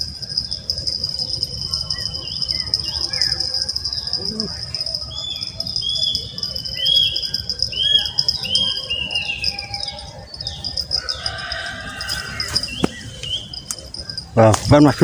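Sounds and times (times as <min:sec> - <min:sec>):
birds chirping and whistling: 0:00.0 - 0:15.0
steady high whine: 0:00.0 - 0:15.0.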